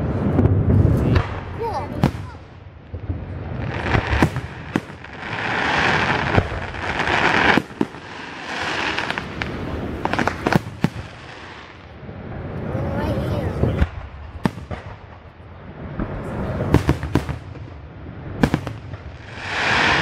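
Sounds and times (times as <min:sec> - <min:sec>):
fireworks bangs: 0:00.0 - 0:20.0
fireworks crackling hiss: 0:00.0 - 0:20.0.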